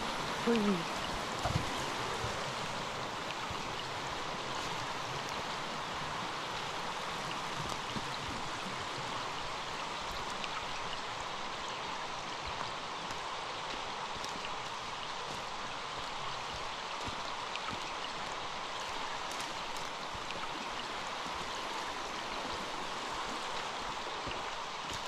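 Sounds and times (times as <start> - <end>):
stream rushing over cascade: 0.0 - 25.0.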